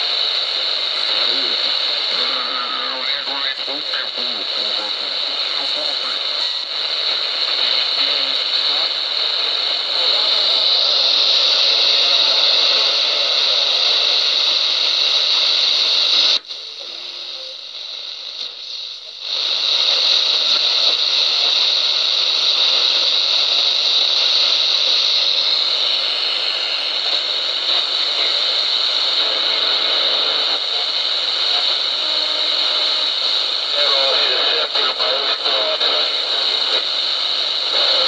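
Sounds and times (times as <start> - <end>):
radio static hiss: 0.0 - 38.0.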